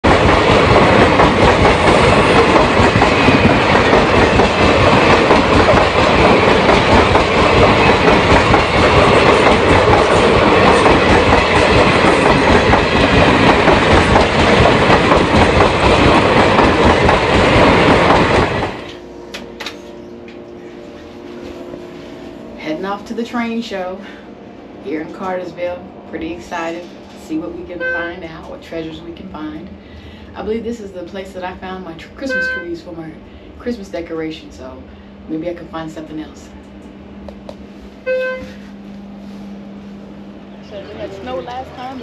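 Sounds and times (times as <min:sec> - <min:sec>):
train running on rails: 0:00.0 - 0:42.0.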